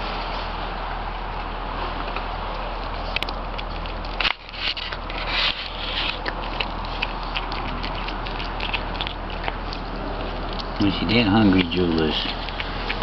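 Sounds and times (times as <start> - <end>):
kitten crunching food: 1.3 - 13.0.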